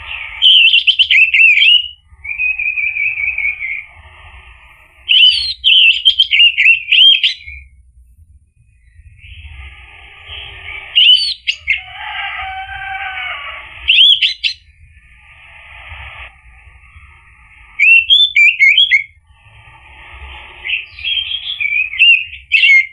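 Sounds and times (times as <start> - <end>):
scratchy bird twittering: 0.0 - 4.0, 4.6 - 7.7, 8.8 - 22.9
thrush whistled song: 0.0 - 7.8, 8.6 - 22.9
faint low rumble: 0.0 - 22.9.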